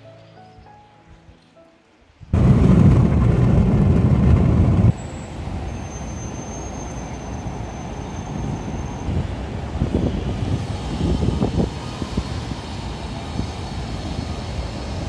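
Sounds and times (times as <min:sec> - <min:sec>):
road traffic noise: 0:02.4 - 0:15.0.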